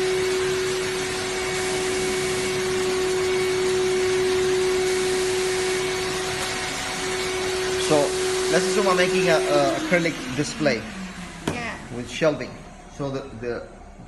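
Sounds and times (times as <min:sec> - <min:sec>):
router motor whine: 0:00.0 - 0:12.4.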